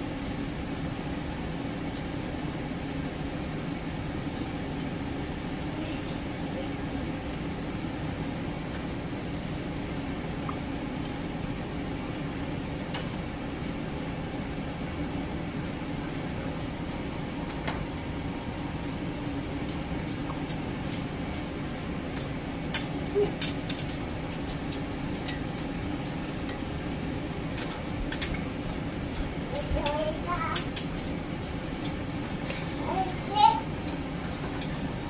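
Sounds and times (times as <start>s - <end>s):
mechanical hum: 0.0s - 35.0s.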